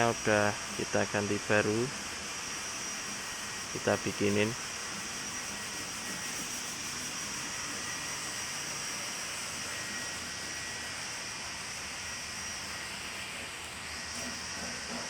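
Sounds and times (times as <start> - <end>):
faint high whine: 0.0 - 15.0
machine hiss: 0.0 - 15.0.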